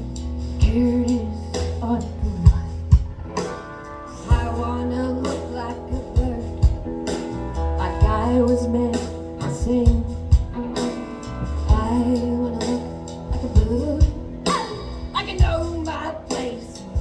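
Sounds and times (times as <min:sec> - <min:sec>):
live country-rock band: 0:00.0 - 0:17.0.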